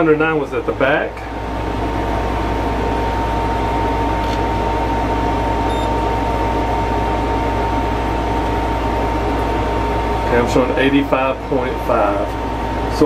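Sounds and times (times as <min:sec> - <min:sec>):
air conditioner drone: 0:00.0 - 0:13.0.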